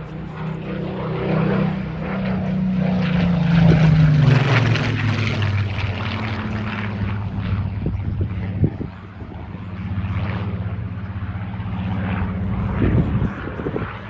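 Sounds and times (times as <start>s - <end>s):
propeller plane engine flypast: 0.0s - 14.0s.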